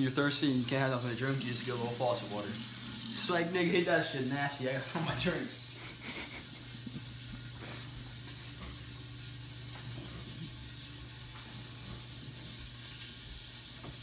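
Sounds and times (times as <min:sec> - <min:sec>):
patty sizzling in a skillet: 0:00.7 - 0:14.0.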